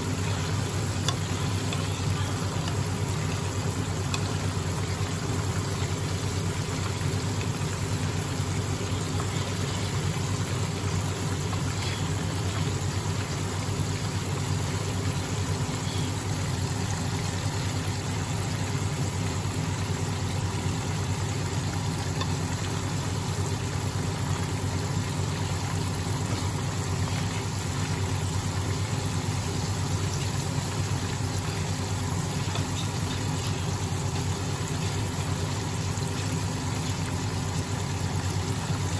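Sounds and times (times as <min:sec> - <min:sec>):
chicken deep-frying in oil: 0:00.0 - 0:38.9
steady low hum: 0:00.0 - 0:38.9.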